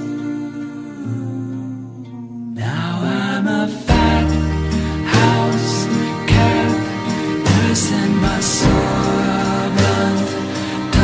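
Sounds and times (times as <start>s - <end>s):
slow ballad music: 0.0s - 11.0s.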